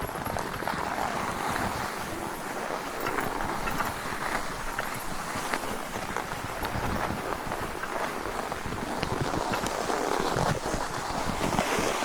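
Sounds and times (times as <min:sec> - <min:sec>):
skis sliding over packed snow: 0:00.0 - 0:12.0.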